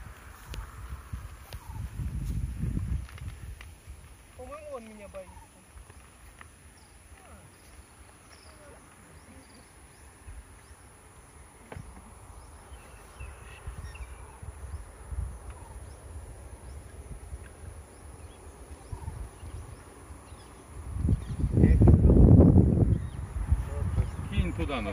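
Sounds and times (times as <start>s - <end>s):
wind rumble on microphone: 0.0s - 4.7s, 9.1s - 24.9s.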